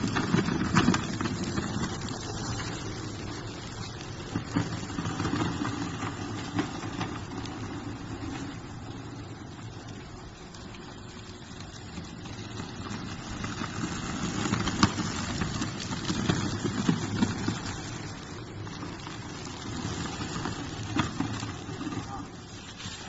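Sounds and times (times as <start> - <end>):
push sweeper scraping rumble: 0.0 - 23.0.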